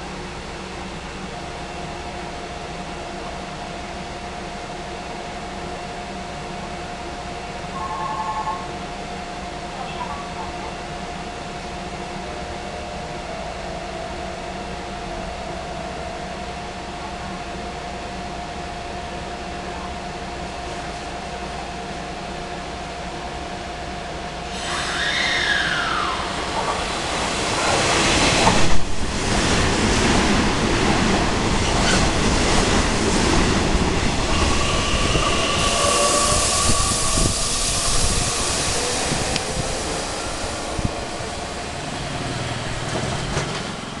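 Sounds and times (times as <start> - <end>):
electric train passing: 0.0 - 19.6, 22.2 - 44.0.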